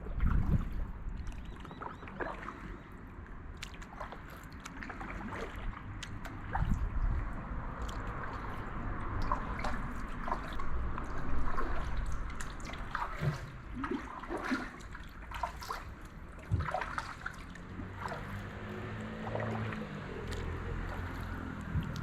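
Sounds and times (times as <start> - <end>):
kayak paddle dipping into water: 0.0 - 22.0
water dripping off paddle: 0.2 - 22.0.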